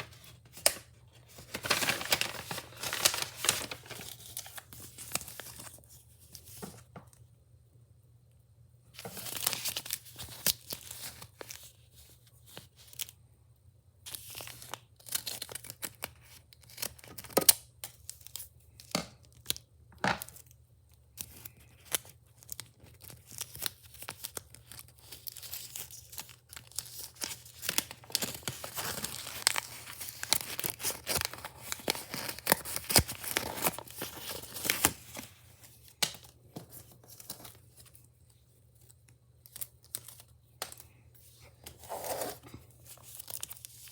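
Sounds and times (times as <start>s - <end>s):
wrapping torn and crinkled: 0.0s - 6.6s, 9.0s - 13.2s, 14.1s - 43.9s.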